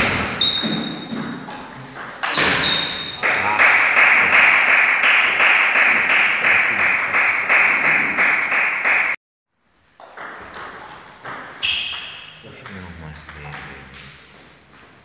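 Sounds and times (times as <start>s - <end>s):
table tennis rally: 0.0s - 9.2s, 9.8s - 15.0s.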